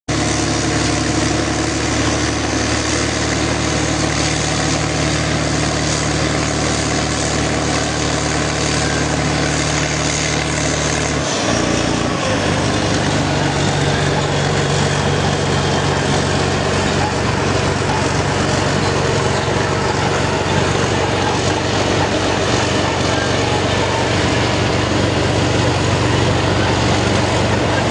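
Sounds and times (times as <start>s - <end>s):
truck diesel engine under load: 0.1s - 27.9s.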